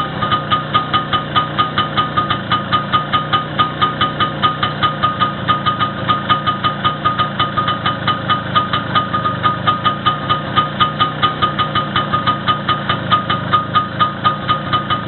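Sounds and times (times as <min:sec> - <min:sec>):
engine idling: 0:00.0 - 0:15.0
sharp engine ticking: 0:00.0 - 0:15.0.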